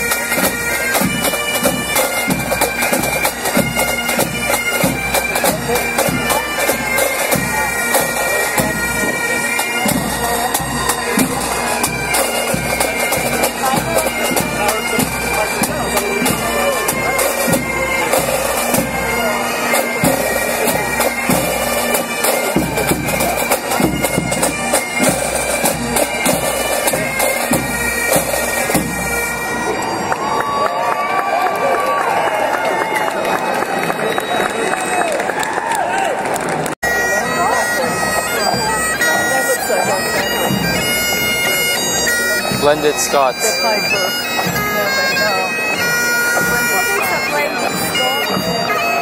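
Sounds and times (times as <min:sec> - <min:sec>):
drums beating march rhythm: 0:00.0 - 0:29.8, 0:36.2 - 0:49.0
bagpipes with drones: 0:00.0 - 0:31.7, 0:32.4 - 0:35.3, 0:36.8 - 0:49.0.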